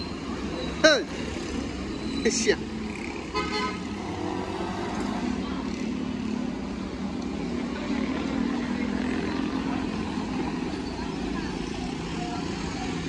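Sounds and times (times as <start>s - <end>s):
heavy vehicle engine: 0.0s - 13.0s
small motorcycle engines passing: 0.1s - 13.0s.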